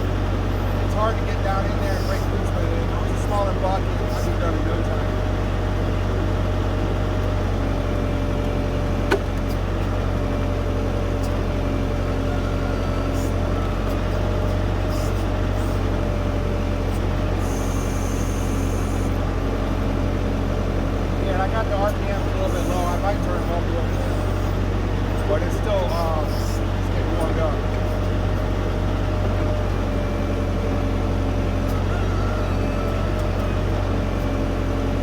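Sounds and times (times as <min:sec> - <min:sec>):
diesel tractor engine running: 0:00.0 - 0:35.0.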